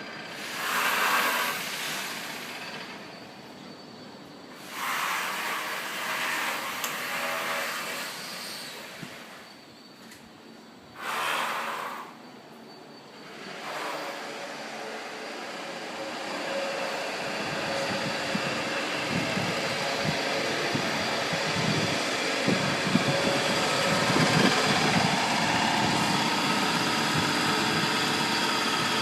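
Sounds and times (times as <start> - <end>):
machinery drone: 0.0 - 29.0.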